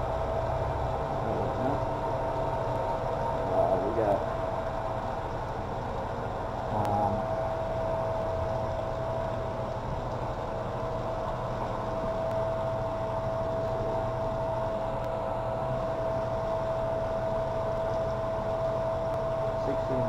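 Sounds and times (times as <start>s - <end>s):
machine hum with high whine: 0.0s - 20.0s.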